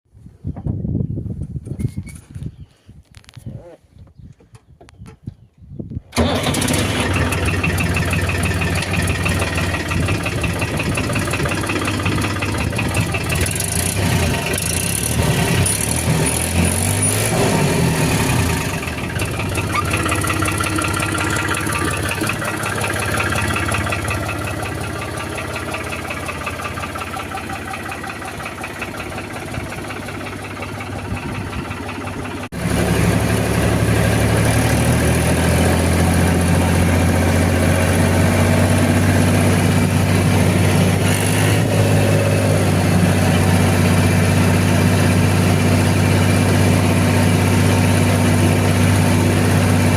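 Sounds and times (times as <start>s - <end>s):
tractor diesel engine running: 6.1s - 49.9s.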